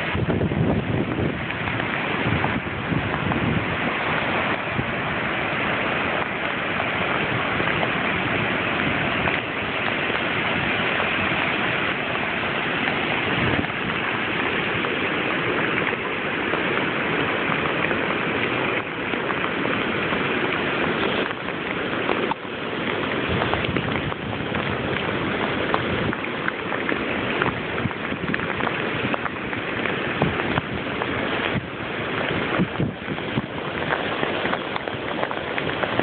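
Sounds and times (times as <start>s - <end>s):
heavy rain pouring: 0.0s - 36.0s
wind rumbling on microphone: 0.0s - 36.0s.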